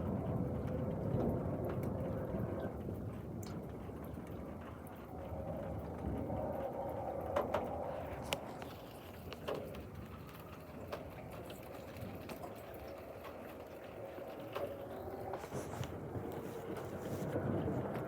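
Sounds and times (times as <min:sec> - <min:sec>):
steady rain wash: 0:00.0 - 0:18.0.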